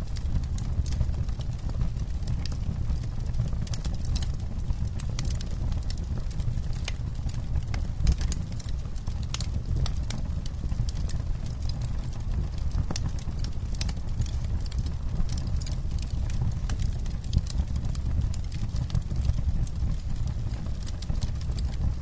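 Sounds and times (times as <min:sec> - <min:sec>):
campfire crackling: 0:00.1 - 0:22.0.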